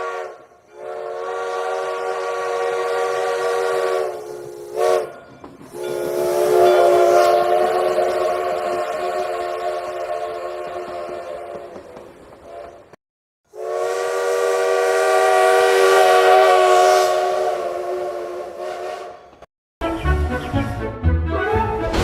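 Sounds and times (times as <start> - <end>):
train whistle chord: 0.0 - 11.8, 13.5 - 21.9.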